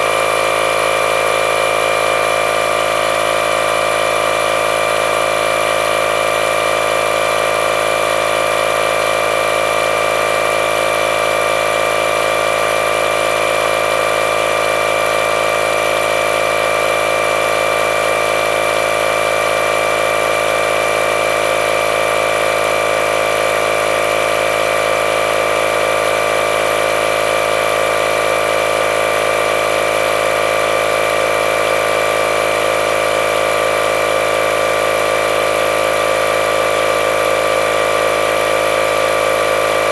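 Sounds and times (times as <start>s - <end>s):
tire inflator droning: 0.0s - 39.9s.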